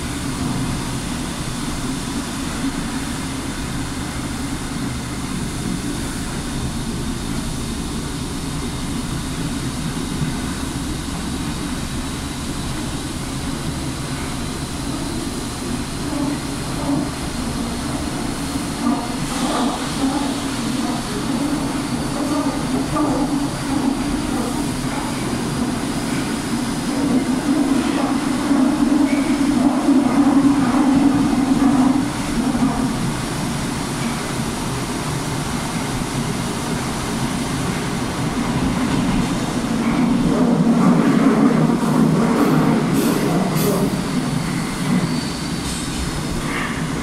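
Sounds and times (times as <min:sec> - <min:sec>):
subway train drone in tunnel: 0:00.0 - 0:47.0.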